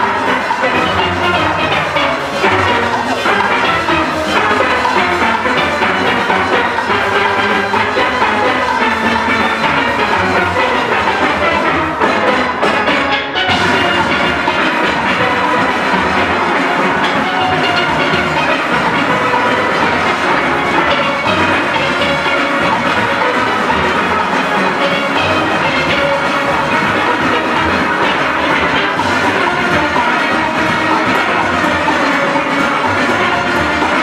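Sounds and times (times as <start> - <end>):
drums keeping the beat: 0.0 - 34.0
steelpans playing: 0.0 - 34.0.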